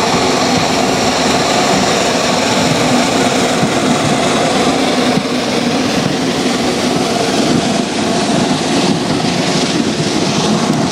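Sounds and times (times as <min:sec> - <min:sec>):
rolling train wheels: 0:00.0 - 0:10.9
steam locomotive running past: 0:00.0 - 0:10.9.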